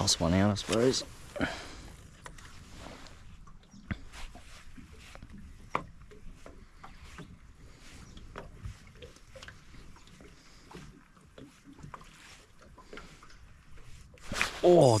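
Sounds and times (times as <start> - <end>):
waves lapping against boat hull: 0.0 - 15.0.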